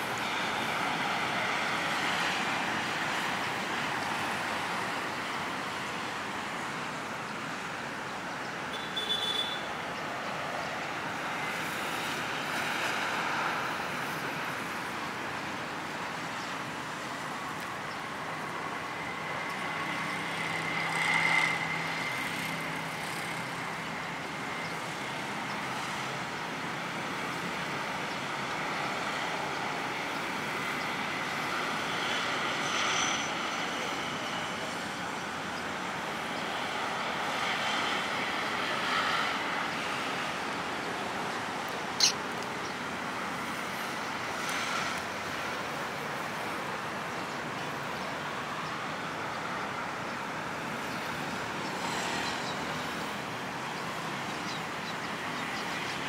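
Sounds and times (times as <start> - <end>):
city street traffic: 0.0 - 56.0.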